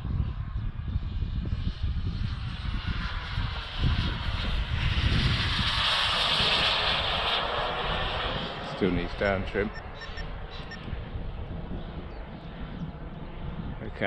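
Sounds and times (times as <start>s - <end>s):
model jet turbine whine: 0.0s - 14.0s.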